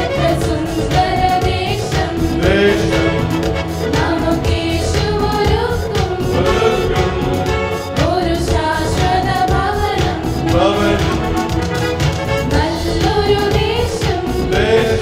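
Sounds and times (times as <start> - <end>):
choir singing a hymn: 0.0 - 15.0
electronic keyboard: 0.0 - 15.0.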